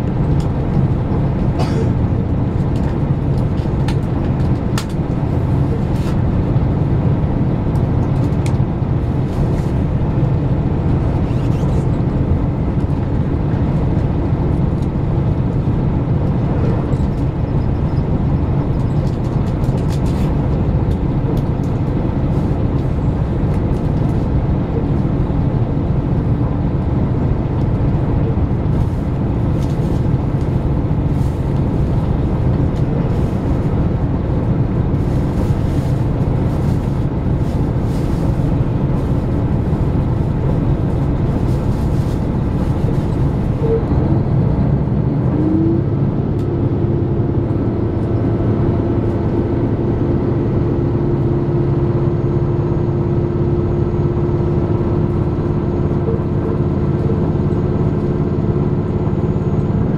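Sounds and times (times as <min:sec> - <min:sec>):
train engine and wheels rumbling: 0:00.0 - 0:59.9.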